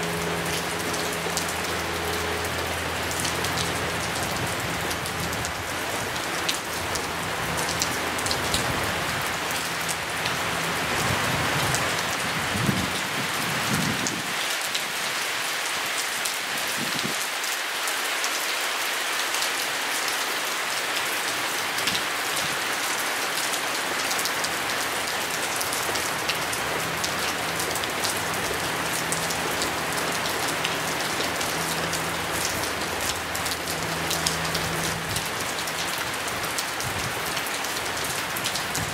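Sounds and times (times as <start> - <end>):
rain falling on grass: 0.0 - 38.9.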